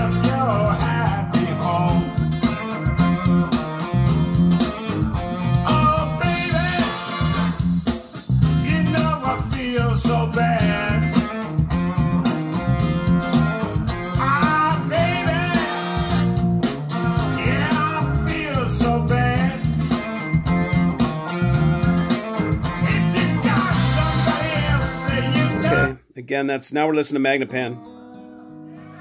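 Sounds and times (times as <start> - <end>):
song with guitar and singing: 0.0 - 26.0.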